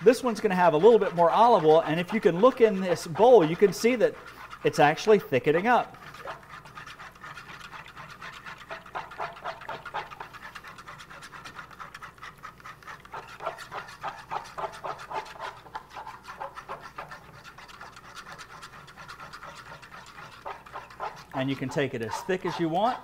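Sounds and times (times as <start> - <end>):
whisk scraping wooden bowl: 0.0 - 23.0.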